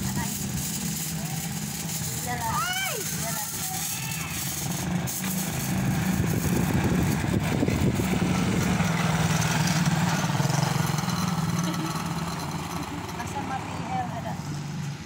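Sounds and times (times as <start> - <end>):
rough irregular rustling: 0.0 - 13.4.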